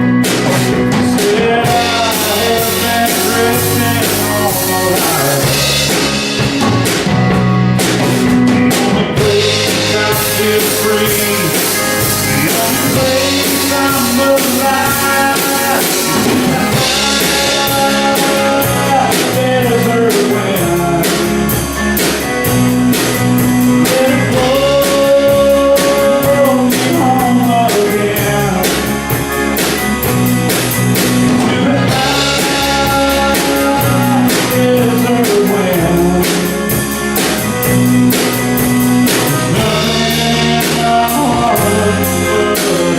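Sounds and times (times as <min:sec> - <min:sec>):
drum kit beat: 0:00.0 - 0:42.9
guitar and bass: 0:00.0 - 0:42.9
person singing: 0:00.8 - 0:07.1, 0:08.3 - 0:29.3, 0:31.2 - 0:37.6, 0:39.1 - 0:42.9.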